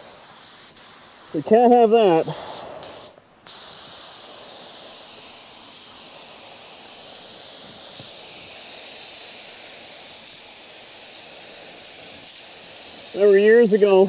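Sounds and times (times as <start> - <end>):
paint spray gun hissing: 0.0 - 14.0.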